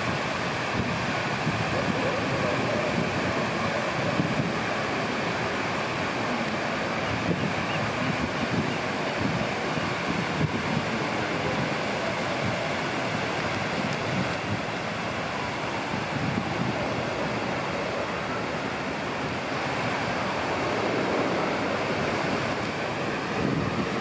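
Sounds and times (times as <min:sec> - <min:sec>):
water rushing over a weir: 0:00.0 - 0:24.0.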